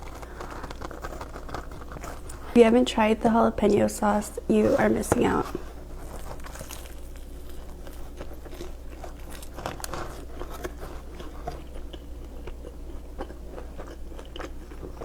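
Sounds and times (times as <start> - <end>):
person chewing crunchy food: 0.0 - 2.6, 4.5 - 15.0.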